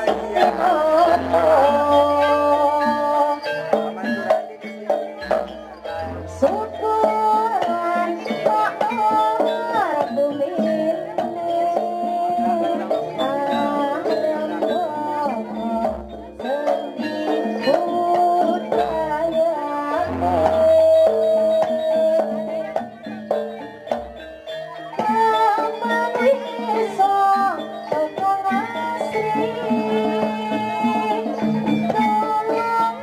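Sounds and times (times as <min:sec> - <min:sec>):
hand drums: 0:00.0 - 0:33.0.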